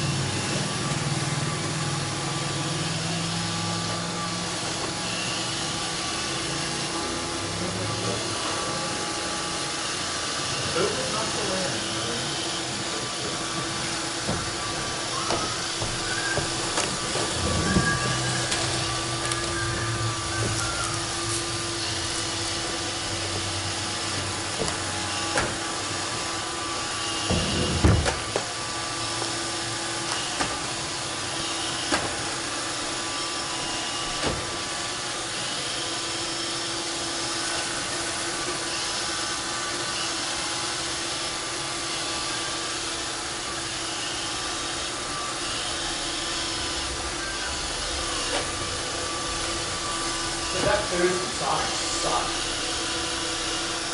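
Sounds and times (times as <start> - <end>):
robot vacuum running: 0.0 - 53.9.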